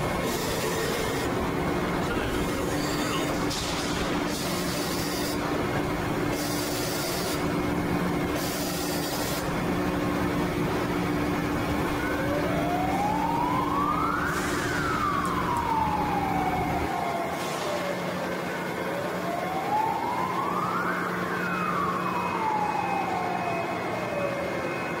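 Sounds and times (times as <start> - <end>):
machinery low hum: 0.0 - 25.0.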